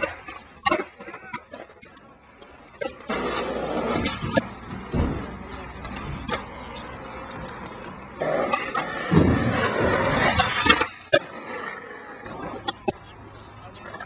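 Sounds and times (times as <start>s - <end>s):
skateboard wheels rolling on concrete: 0.0s - 14.0s.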